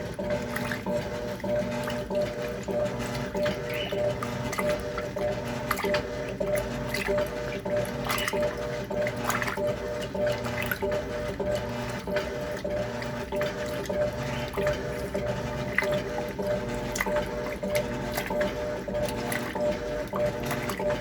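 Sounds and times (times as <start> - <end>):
washing machine motor hum: 0.0 - 21.0
water and clothes churning: 0.0 - 21.0.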